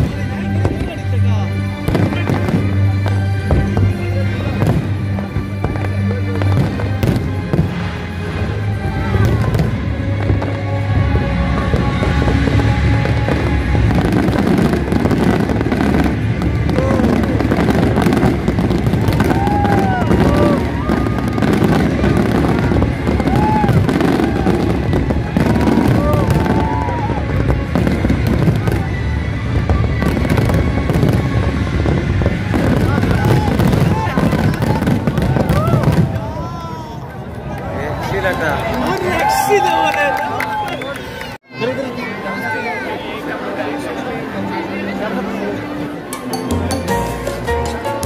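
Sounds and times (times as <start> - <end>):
music: 0.0 - 36.7, 38.3 - 48.0
fireworks bangs and crackles: 0.0 - 41.0
crowd voices: 0.0 - 48.0.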